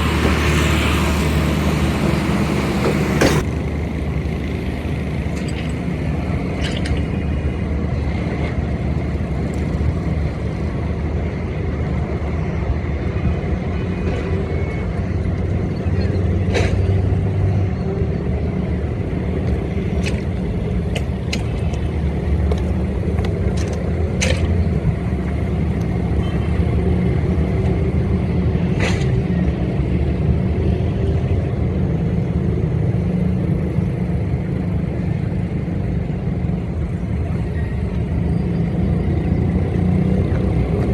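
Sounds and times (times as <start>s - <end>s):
diesel train rumbling: 0.0s - 40.9s.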